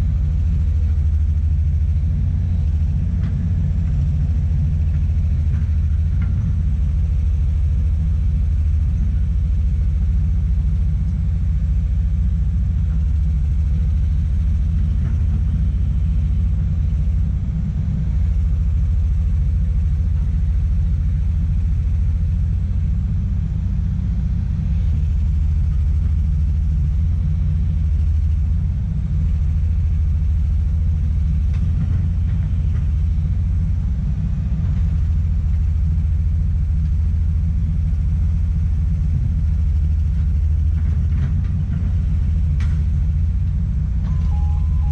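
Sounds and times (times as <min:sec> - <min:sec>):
excavator diesel engine rumbling: 0:00.0 - 0:44.9.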